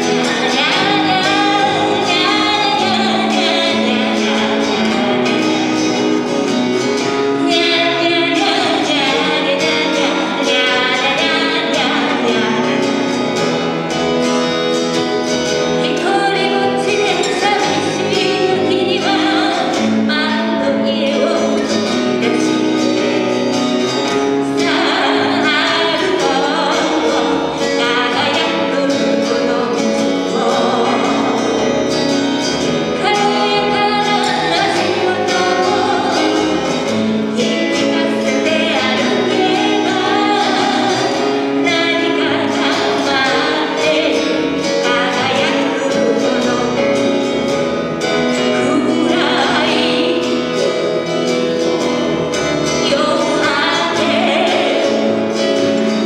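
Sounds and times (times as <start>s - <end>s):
woman singing: 0.0s - 13.6s, 15.6s - 56.0s
acoustic guitars: 0.0s - 56.0s.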